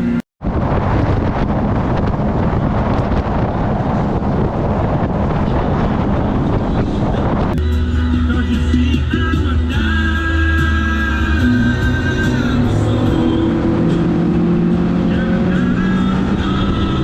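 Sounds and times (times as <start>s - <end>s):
wind buffeting the microphone: 0.4s - 17.0s.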